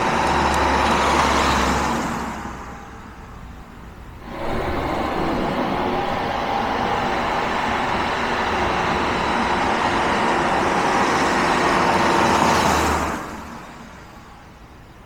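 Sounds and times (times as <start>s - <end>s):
car engine driving: 0.0s - 14.2s
road noise: 0.0s - 15.0s.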